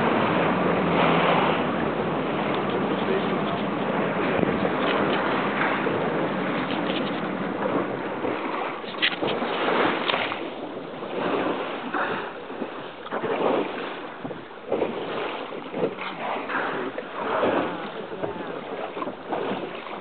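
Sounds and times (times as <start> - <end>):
water lapping against boat: 0.0 - 20.0
wind buffeting microphone: 0.0 - 20.0.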